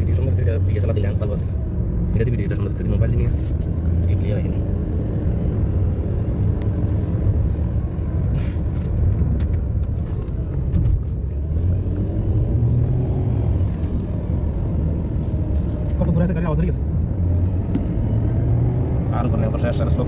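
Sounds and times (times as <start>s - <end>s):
car interior engine and road noise: 0.0s - 20.0s.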